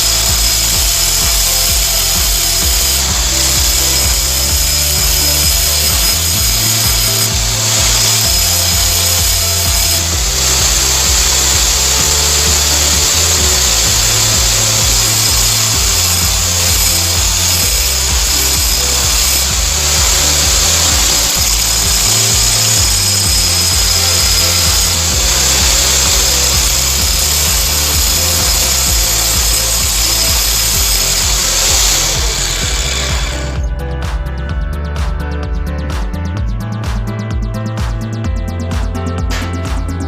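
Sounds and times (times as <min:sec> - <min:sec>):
power tool running on steel: 0:00.0 - 0:33.7
background music with bass line: 0:00.0 - 0:40.0.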